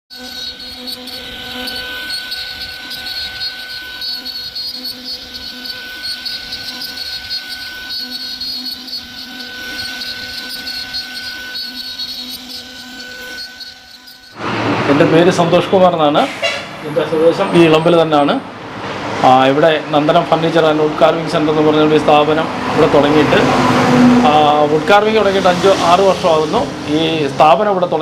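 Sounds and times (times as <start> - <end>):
cnc router whining: 0.1 - 28.0.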